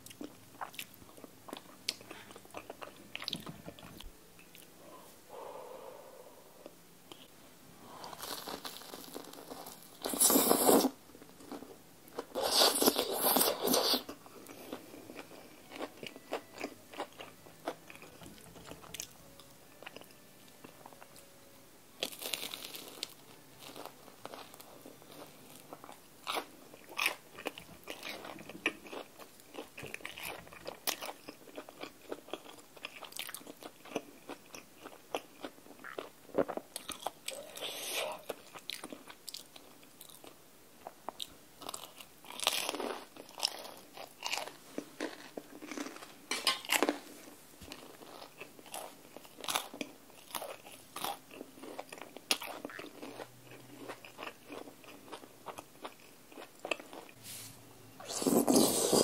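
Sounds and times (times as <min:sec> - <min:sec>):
person chewing food: 0:00.0 - 0:04.7, 0:07.9 - 0:21.2, 0:22.0 - 0:57.2, 0:58.0 - 0:59.0.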